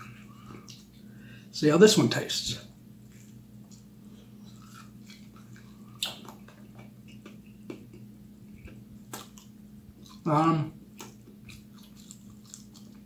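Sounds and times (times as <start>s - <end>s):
person chewing wetly: 0.0s - 1.1s, 3.0s - 13.0s
steady low hum: 0.0s - 13.0s.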